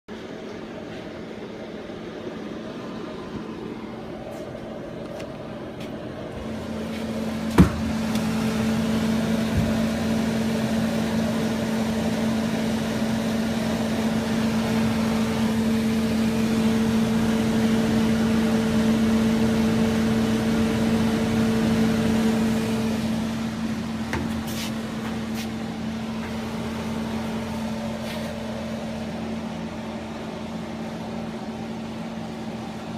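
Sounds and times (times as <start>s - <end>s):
refrigerator hum: 0.1s - 32.9s.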